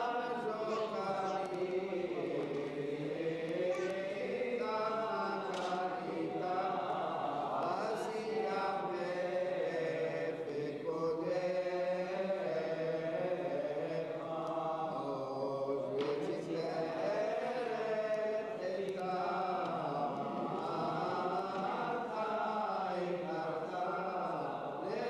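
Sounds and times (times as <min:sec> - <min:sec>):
voices chanting a prayer: 0:00.0 - 0:25.0.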